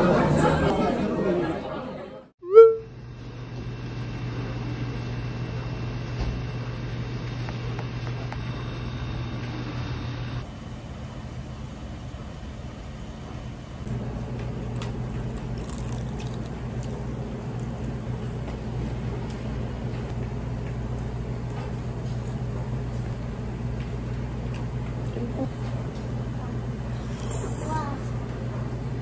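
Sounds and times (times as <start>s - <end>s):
low machine hum: 2.5s - 29.0s.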